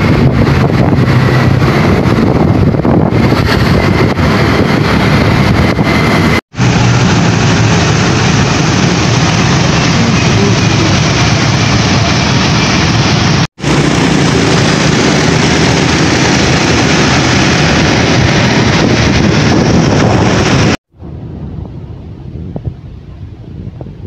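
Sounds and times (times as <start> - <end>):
motorbike engine: 0.0 - 20.8
wind rushing over microphone: 0.0 - 24.0.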